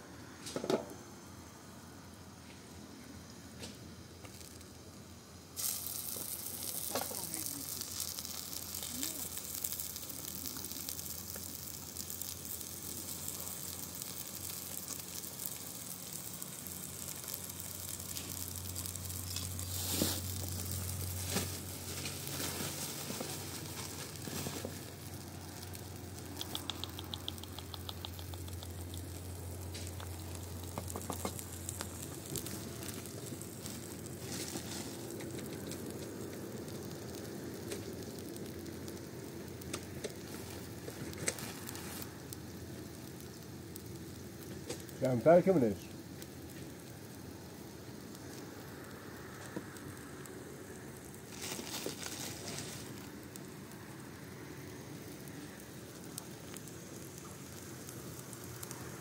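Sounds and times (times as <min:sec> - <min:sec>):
food sizzling in a pan: 0:03.2 - 0:59.0.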